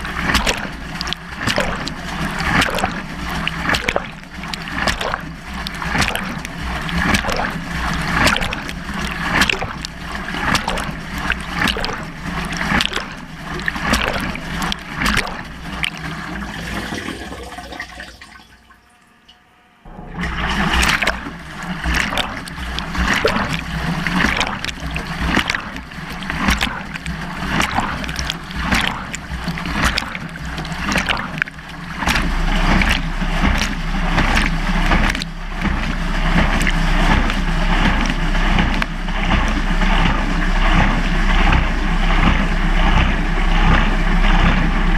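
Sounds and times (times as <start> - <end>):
water sloshing in washing machine drum: 0.0 - 44.9.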